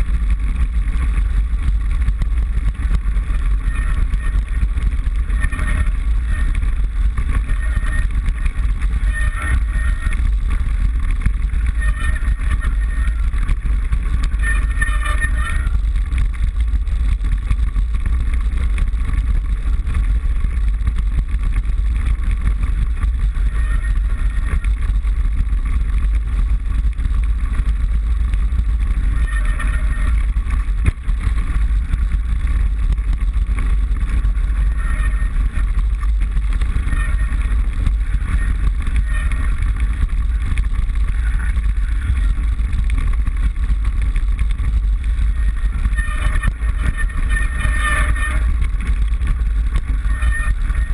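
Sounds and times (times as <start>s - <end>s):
bike rattling: 0.0s - 50.9s
wind rumble on microphone: 0.0s - 50.9s.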